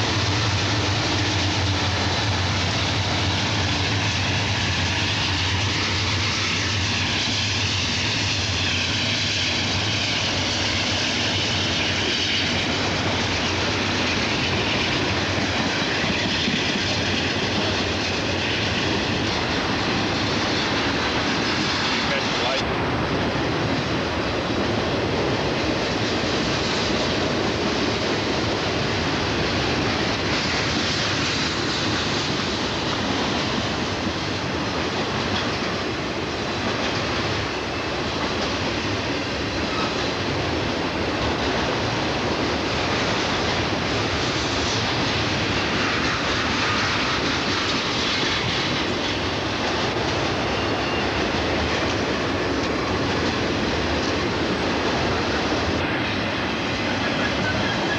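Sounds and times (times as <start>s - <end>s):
steel wheels running on rails: 0.0s - 57.9s.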